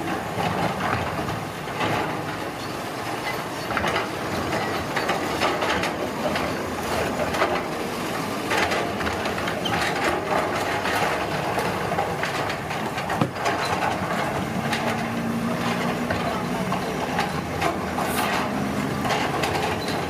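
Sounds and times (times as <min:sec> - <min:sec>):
construction machinery din: 0:00.0 - 0:20.0.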